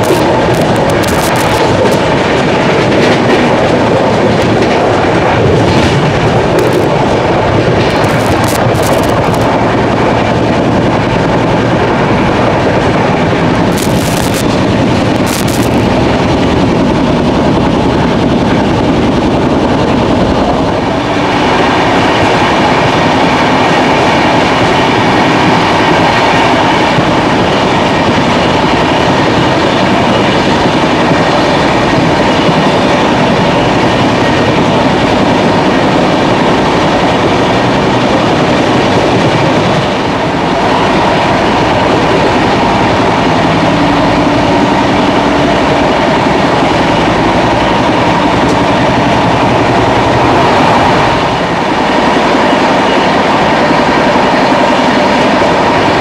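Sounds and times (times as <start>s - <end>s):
train wheels rushing on rails: 0.0s - 56.0s.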